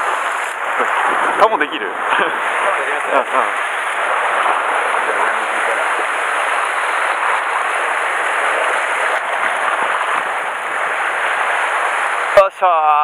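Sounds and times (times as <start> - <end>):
surf breaking on rocks: 0.0 - 12.6.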